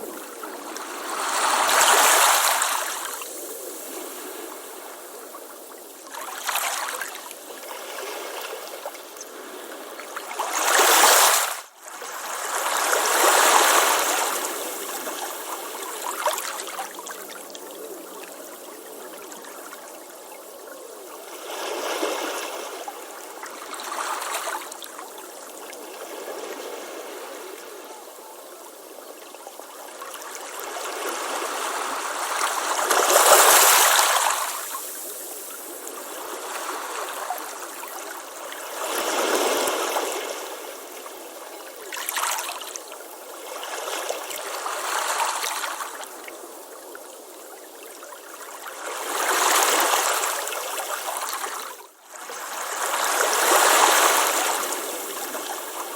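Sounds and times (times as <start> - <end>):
ocean waves breaking on beach: 0.0 - 20.2, 20.8 - 55.9.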